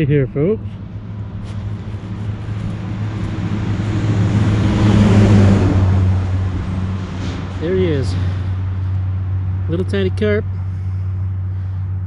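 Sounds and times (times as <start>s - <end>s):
motor vehicle passing by: 0.0s - 12.0s
steady low hum: 0.0s - 12.0s.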